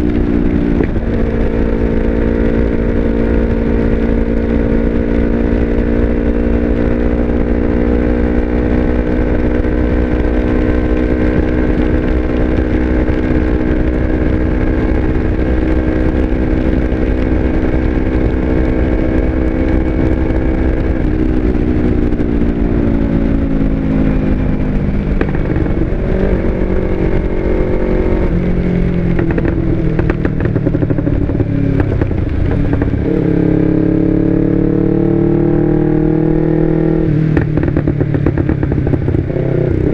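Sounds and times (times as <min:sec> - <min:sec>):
motorcycle engine: 0:00.0 - 0:39.9
wind rumble: 0:00.0 - 0:39.9.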